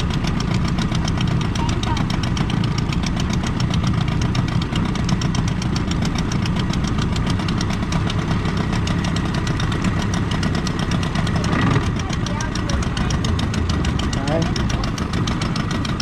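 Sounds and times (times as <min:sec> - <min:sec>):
small boat motor running: 0:00.0 - 0:16.0.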